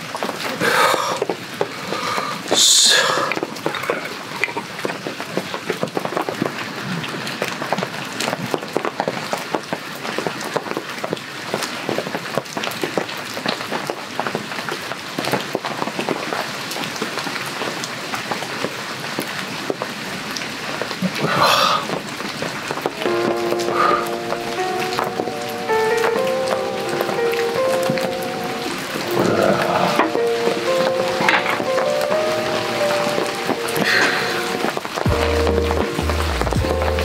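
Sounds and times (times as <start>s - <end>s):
heavy rain on a tarp: 0.0s - 37.0s.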